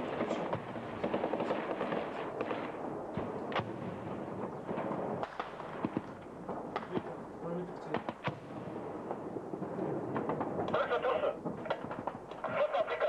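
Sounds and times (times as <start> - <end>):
gunfire: 0.0 - 7.2, 7.9 - 13.0.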